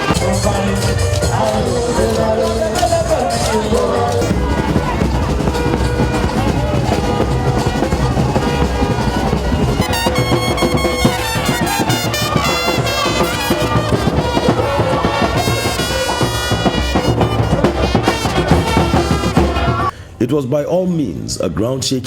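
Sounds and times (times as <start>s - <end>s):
horns playing a melody: 0.0s - 19.9s
steady drum beat: 0.0s - 19.9s.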